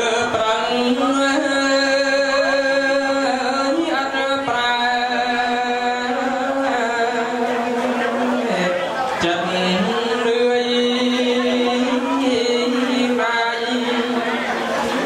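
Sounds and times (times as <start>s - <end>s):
man chanting verse: 0.0s - 15.0s.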